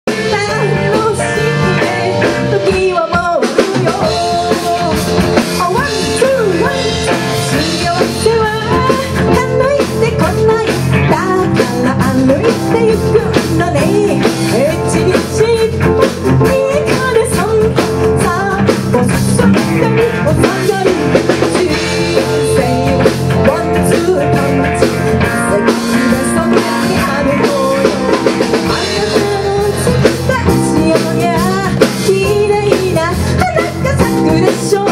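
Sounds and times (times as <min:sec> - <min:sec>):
live rock band playing: 0:00.0 - 0:34.9
woman singing: 0:00.1 - 0:34.9.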